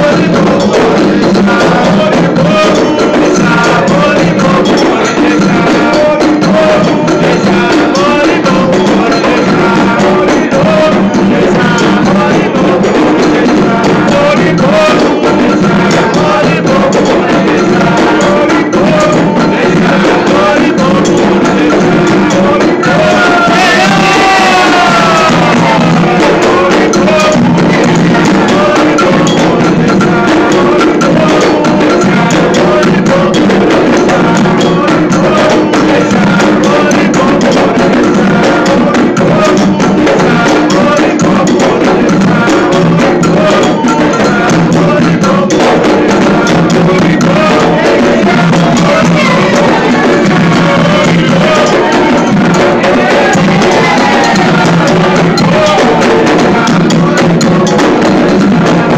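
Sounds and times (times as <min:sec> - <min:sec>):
hand drums: 0:00.0 - 0:58.9
voices singing a chant: 0:00.0 - 0:58.9
clanking metal bell: 0:00.1 - 0:58.9.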